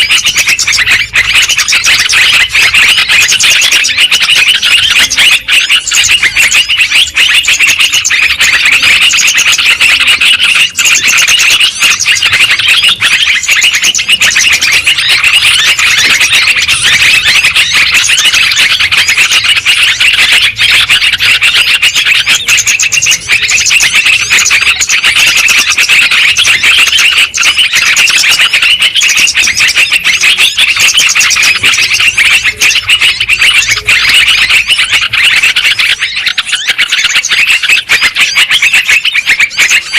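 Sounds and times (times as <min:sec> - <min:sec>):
bulbuls singing and chattering: 0:00.0 - 0:39.9.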